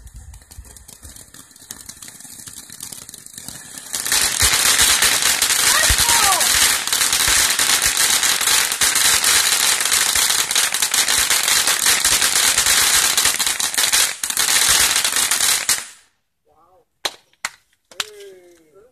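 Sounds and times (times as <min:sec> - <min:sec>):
firework fountain crackling: 0:00.0 - 0:16.1.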